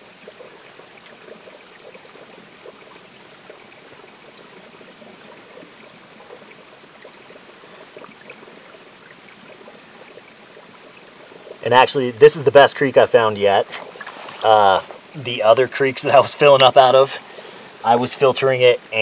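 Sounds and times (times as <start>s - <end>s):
water trickling into plastic bottle: 0.0s - 18.2s.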